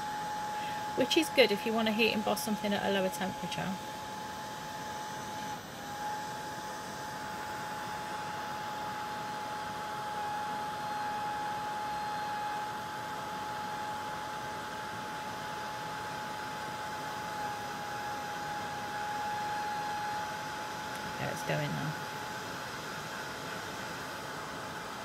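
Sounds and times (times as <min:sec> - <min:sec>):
heat tool blowing air: 0:00.0 - 0:25.0.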